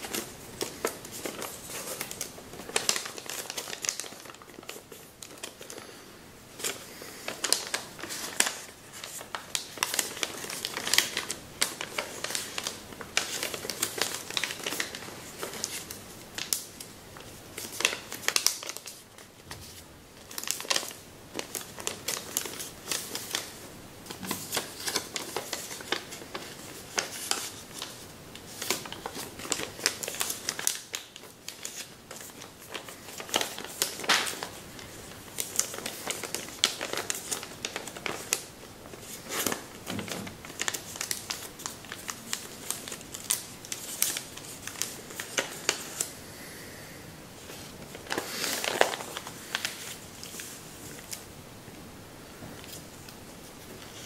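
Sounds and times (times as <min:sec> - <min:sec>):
paper rustling and crinkling: 0:00.0 - 0:46.2, 0:47.4 - 0:51.3, 0:52.5 - 0:54.0.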